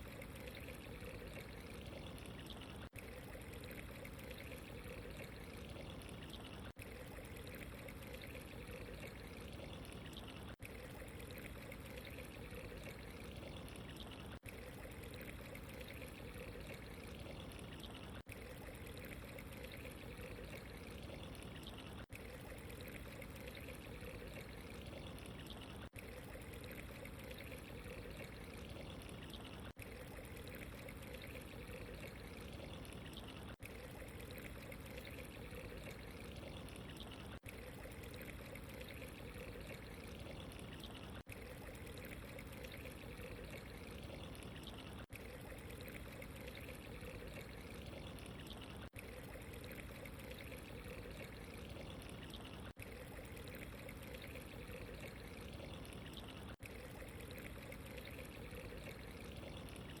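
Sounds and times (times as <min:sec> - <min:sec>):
running water trickling: 0:00.0 - 1:00.0.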